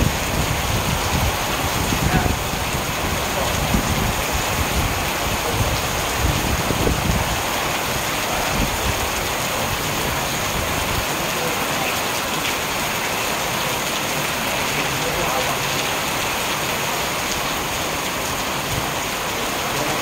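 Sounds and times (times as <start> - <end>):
heavy rain on driveway and cars: 0.0 - 20.0.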